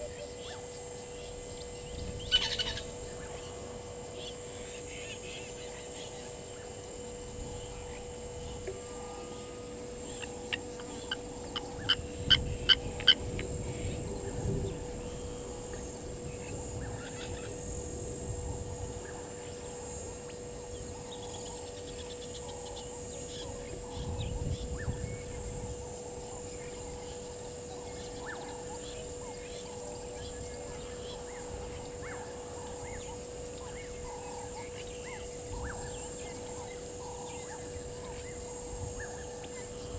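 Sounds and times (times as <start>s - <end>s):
steady high hiss: 0.0s - 39.9s
steady low hum: 0.0s - 39.9s.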